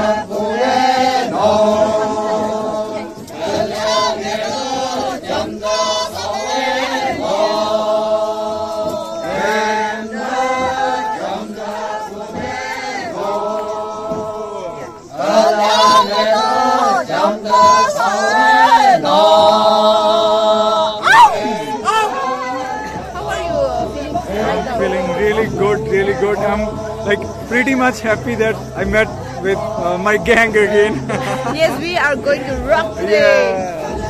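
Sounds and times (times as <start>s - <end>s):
group chanting in unison: 0.0s - 34.0s.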